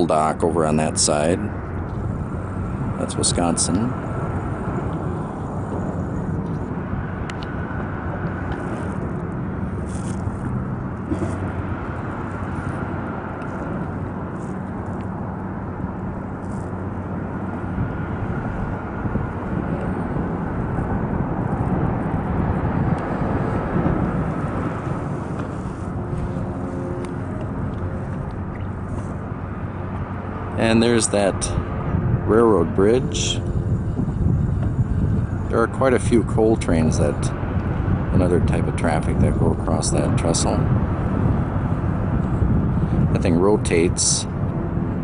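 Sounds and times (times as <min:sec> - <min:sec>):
low rumble on open water: 0:00.0 - 0:45.0.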